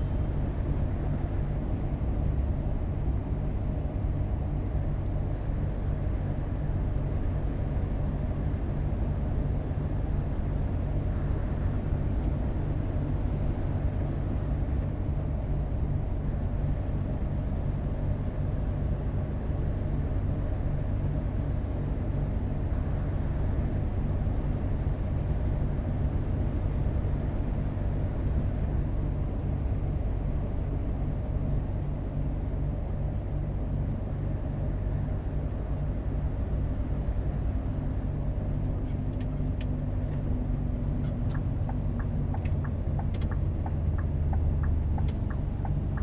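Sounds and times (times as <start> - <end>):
road noise: 0.0 - 46.0
truck engine drone: 0.0 - 46.0.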